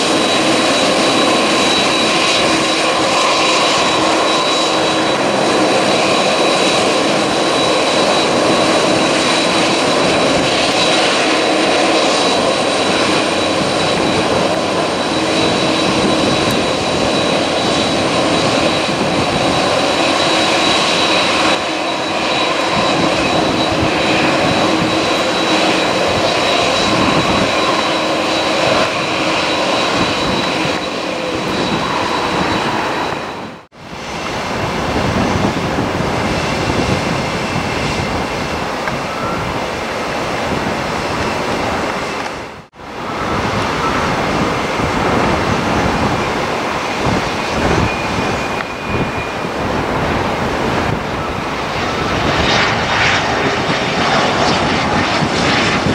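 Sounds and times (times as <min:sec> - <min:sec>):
jet engines roaring with whine: 0:00.0 - 0:55.9.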